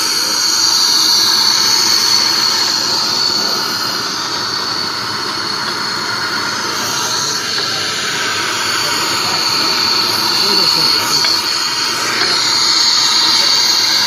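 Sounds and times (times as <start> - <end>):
workshop machinery hiss and whine: 0.0 - 14.0.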